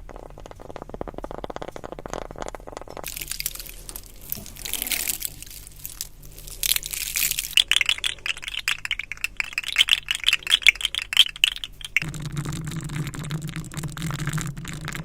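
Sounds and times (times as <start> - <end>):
crackling and crinkling: 0.0 - 15.0.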